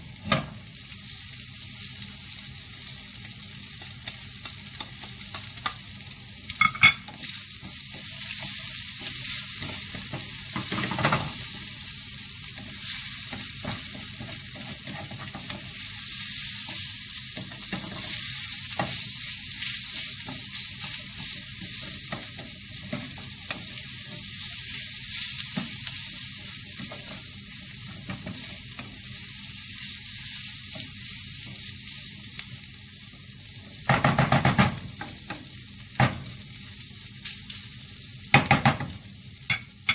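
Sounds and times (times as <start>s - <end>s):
rice sizzling in a hot pan: 0.0s - 39.9s.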